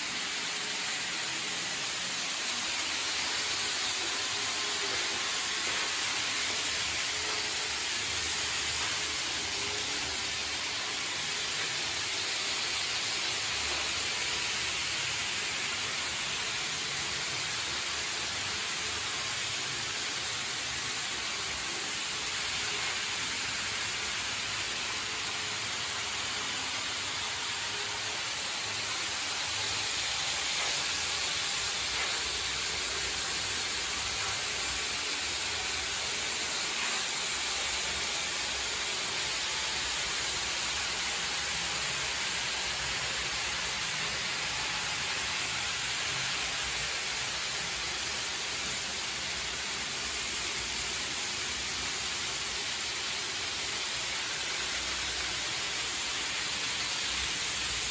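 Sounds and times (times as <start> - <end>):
model trains running on track: 0.0 - 57.9.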